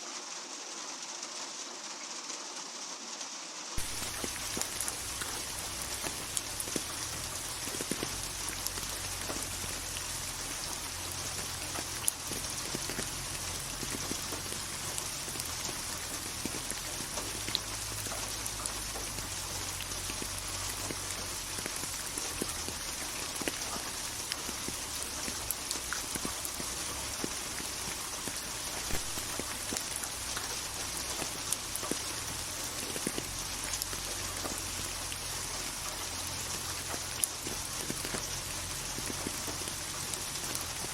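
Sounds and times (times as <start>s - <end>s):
rain on a hard surface: 0.0s - 40.9s
drops ticking: 3.8s - 40.9s.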